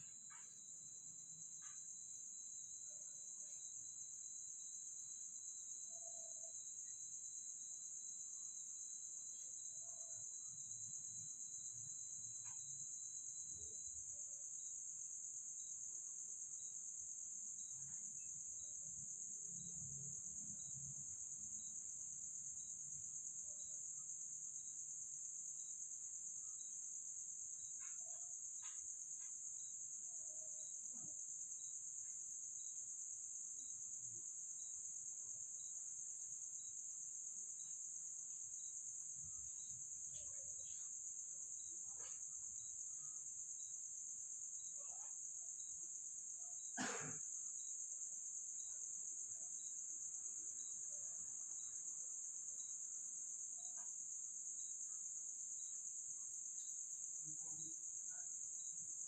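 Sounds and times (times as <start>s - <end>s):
night insects chorus: 0.0s - 59.0s.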